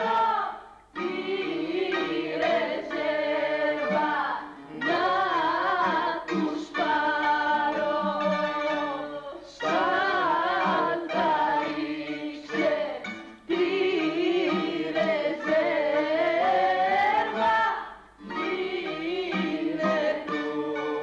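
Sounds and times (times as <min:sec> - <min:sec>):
cast singing: 0:00.0 - 0:21.0.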